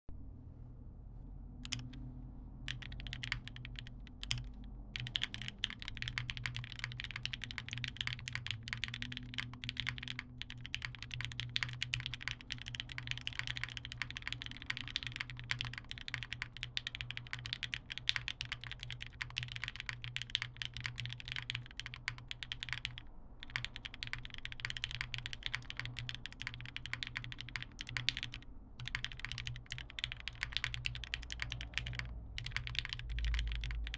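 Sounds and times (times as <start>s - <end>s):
mechanical keyboard typing: 1.6s - 2.0s, 2.7s - 33.9s.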